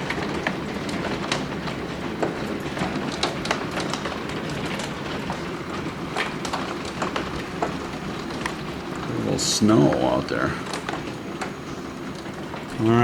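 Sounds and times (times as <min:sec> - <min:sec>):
hailstones clicking on hard surfaces: 0:00.0 - 0:13.0
heavy rain rushing: 0:00.0 - 0:13.0.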